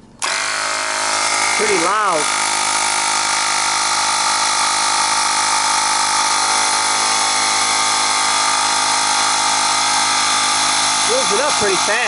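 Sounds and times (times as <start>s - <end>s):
electric air compressor running: 0.2s - 12.0s.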